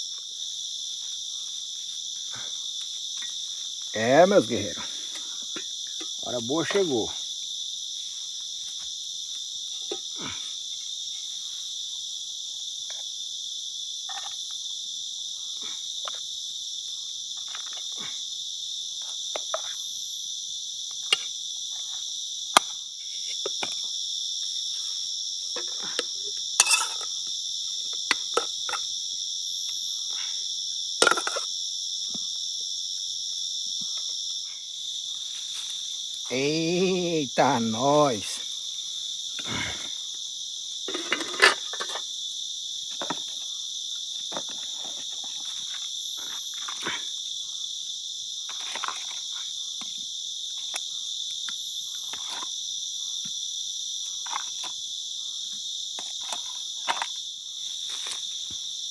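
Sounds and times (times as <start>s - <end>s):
night insects chorus: 0.0s - 58.9s.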